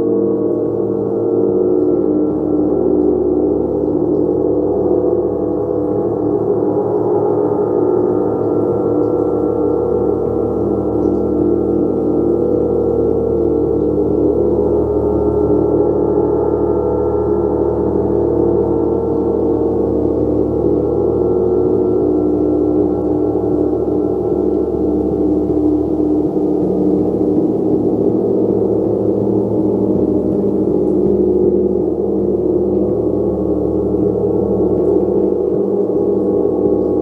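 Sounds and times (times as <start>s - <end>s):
gong ringing: 0.0s - 37.0s.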